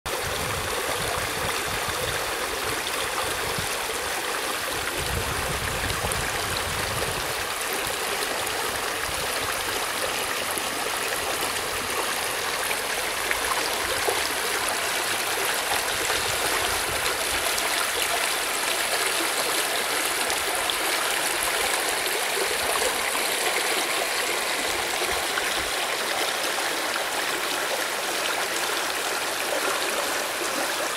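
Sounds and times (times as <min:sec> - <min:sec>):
stream babbling over stones: 0:00.1 - 0:30.9.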